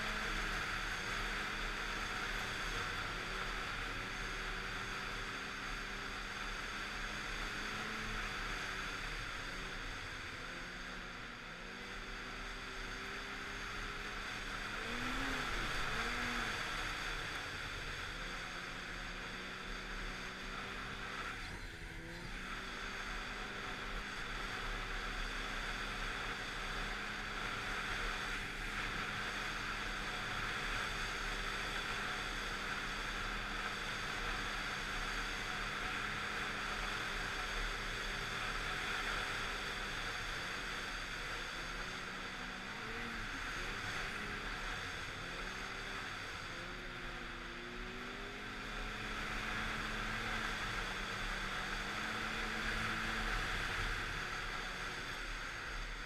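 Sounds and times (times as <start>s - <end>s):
snowmobile engine running: 0.0s - 56.0s
steady rushing noise: 0.0s - 56.0s.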